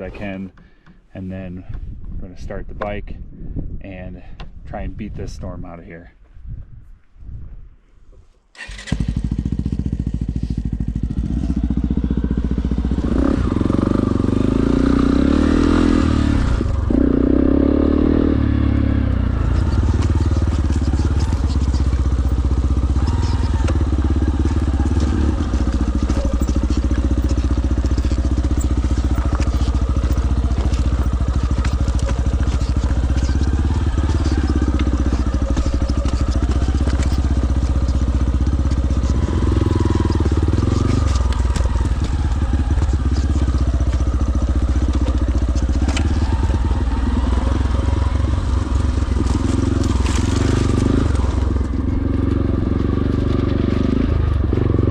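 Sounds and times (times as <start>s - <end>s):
dirt bike engine running: 8.6s - 54.9s.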